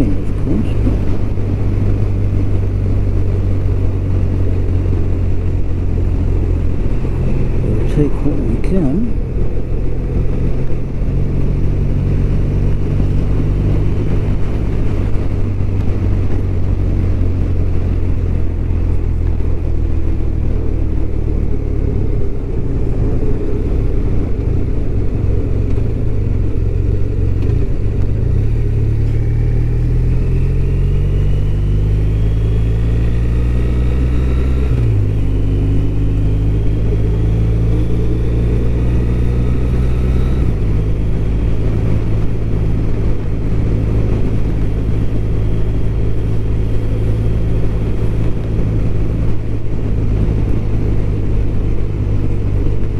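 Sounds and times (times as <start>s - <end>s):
motorcycle engine running: 0.0s - 52.9s
road noise: 0.0s - 52.9s.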